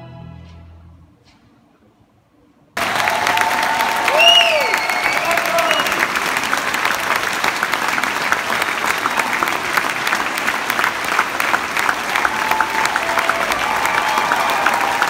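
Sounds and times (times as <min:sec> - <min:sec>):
audience applauding: 0:02.8 - 0:15.0.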